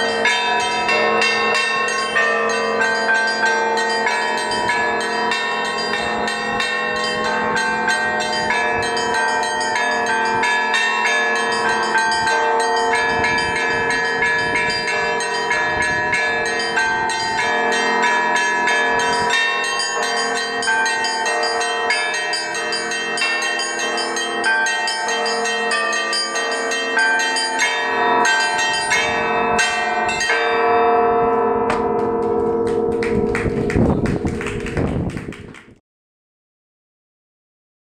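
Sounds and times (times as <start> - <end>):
small bells chiming rapidly: 0.0 - 30.8
large bells striking: 0.0 - 35.4.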